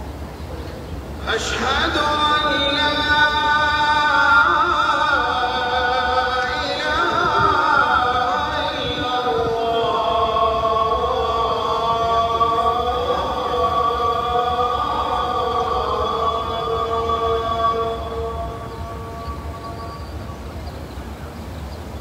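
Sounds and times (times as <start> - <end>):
man singing call to prayer: 1.2 - 20.6.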